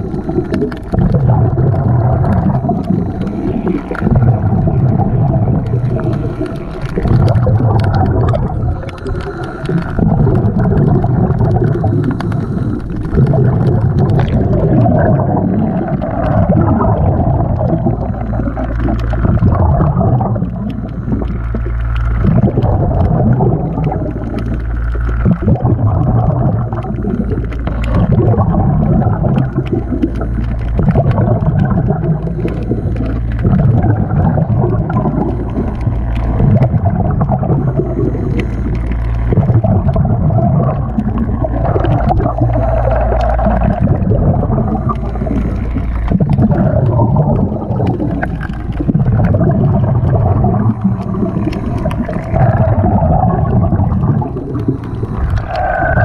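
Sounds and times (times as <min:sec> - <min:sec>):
underwater low rumble: 0:00.0 - 0:56.0
water gurgling and bubbling: 0:00.0 - 0:56.0.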